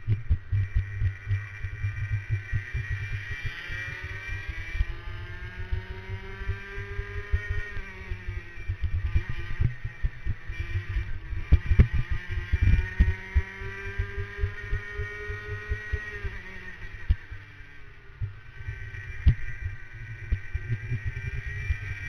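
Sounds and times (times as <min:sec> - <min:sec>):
kart engine revving: 0:00.0 - 0:22.0.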